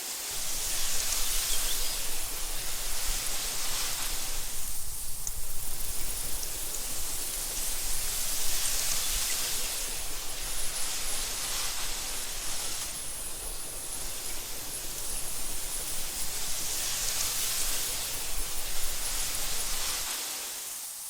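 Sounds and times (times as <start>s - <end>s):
wind blowing through grass: 0.0s - 20.8s.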